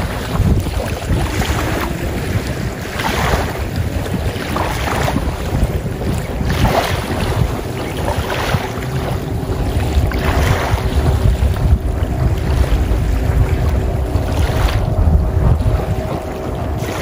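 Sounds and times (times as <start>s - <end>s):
small waves washing in shallow water: 0.0s - 17.0s
wind buffeting microphone: 0.0s - 17.0s.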